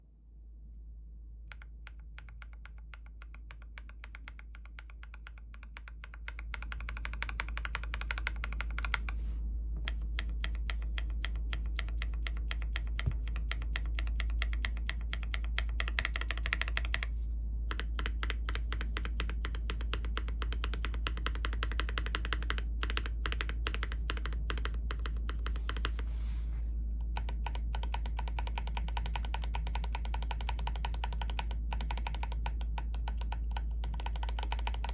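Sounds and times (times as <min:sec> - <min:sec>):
mechanical keyboard typing: 0:01.5 - 0:09.2, 0:09.8 - 0:17.1, 0:17.7 - 0:26.1, 0:27.1 - 0:34.9
low hum: 0:06.2 - 0:34.9.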